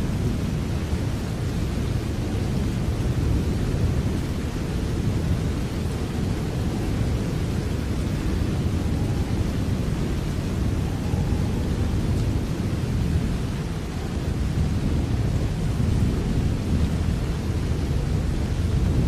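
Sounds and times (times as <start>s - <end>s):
rain with deep rumble: 0.0s - 19.0s.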